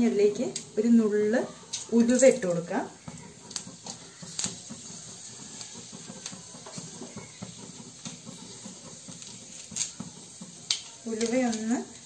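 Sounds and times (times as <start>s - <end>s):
oil sizzling: 0.0s - 12.0s
seeds popping in oil: 0.0s - 12.0s.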